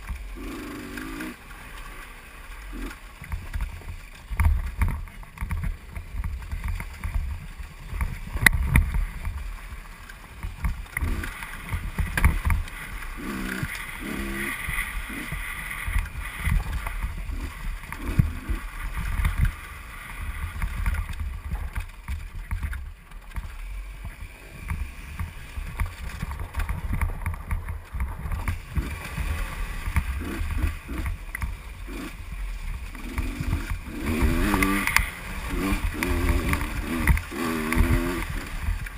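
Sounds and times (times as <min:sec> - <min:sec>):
motorcycle engine revving: 0:00.0 - 0:38.9
wind rumble on microphone: 0:03.2 - 0:09.7, 0:14.0 - 0:38.9.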